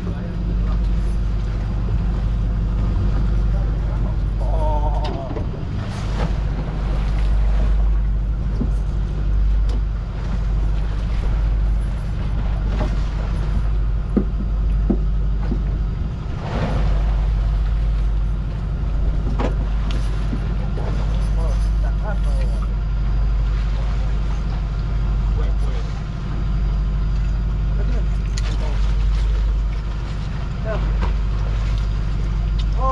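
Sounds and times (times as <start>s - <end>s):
boat machinery hum: 0.0s - 32.9s.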